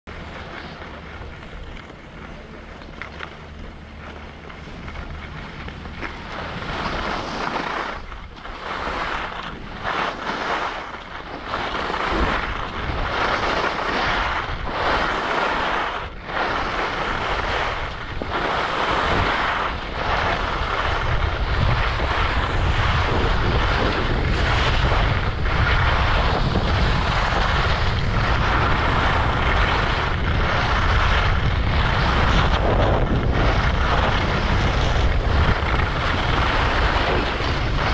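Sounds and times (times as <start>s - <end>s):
skis scraping over snow: 0.1s - 37.9s
wind buffeting microphone: 0.1s - 37.9s.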